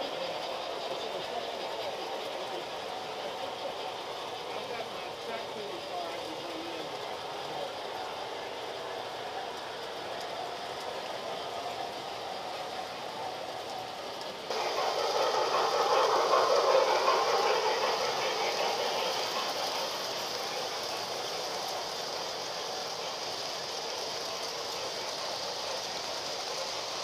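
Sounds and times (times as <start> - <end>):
model train wheels rattling: 0.0 - 27.0.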